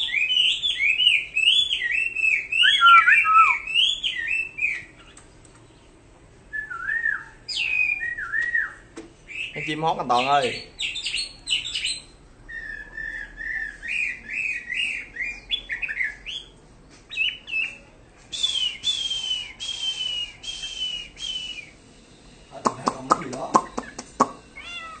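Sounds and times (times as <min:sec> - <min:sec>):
bird singing whistled notes: 0:00.0 - 0:05.1, 0:06.5 - 0:24.7.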